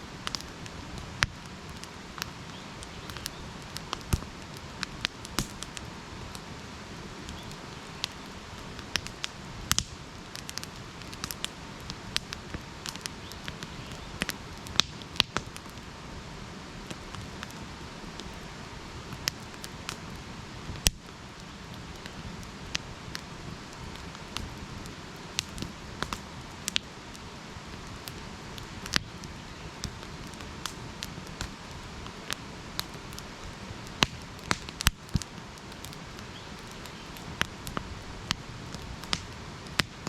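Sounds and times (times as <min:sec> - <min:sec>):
low rush of flame: 0:00.0 - 0:40.0
wood crackling and popping: 0:00.0 - 0:40.0.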